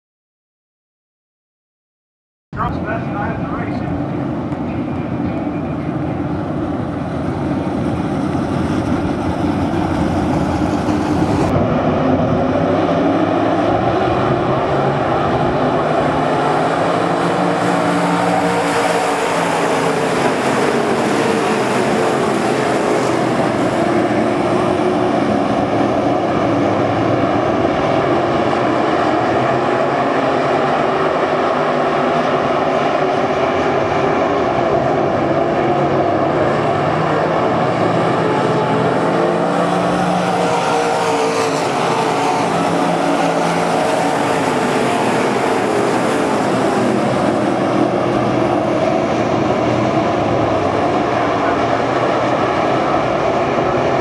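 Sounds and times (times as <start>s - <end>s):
race car engines: 2.6s - 54.0s.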